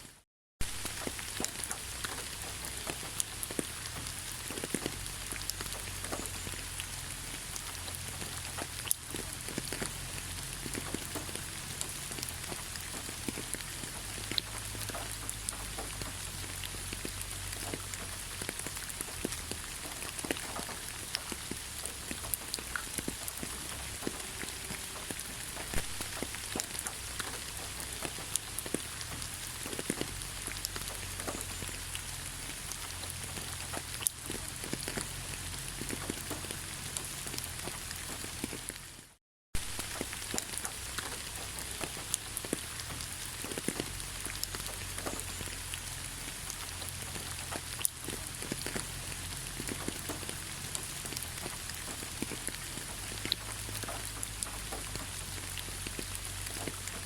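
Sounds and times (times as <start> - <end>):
rain falling: 0.0 - 57.0
raindrops ticking: 0.6 - 57.0.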